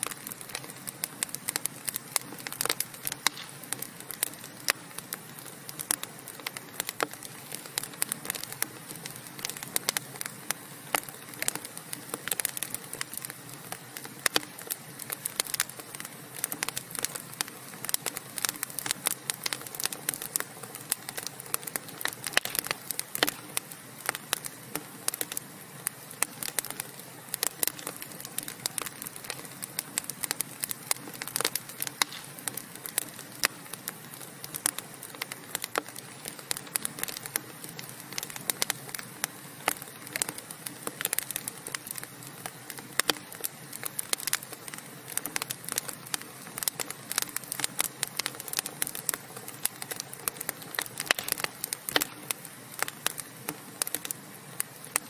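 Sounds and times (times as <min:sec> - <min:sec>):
wood fire crackling in fireplace: 0:00.0 - 0:55.0.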